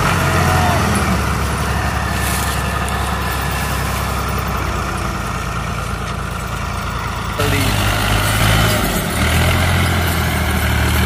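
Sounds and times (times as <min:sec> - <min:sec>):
diesel tractor engines rumbling: 0:00.0 - 0:11.0.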